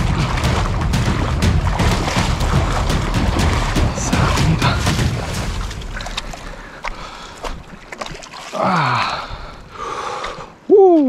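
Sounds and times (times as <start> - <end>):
surf splashing over rocks: 0.0 - 9.2.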